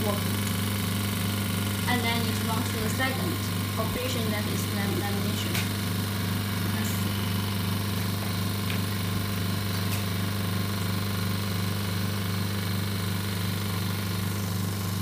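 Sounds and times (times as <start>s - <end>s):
vacuum pump humming: 0.0s - 15.0s.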